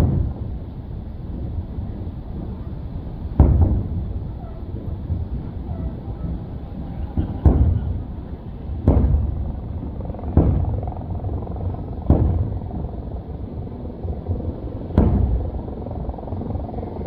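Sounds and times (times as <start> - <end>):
fireworks booming: 0.0 - 15.9
steady low rumble: 0.0 - 17.0.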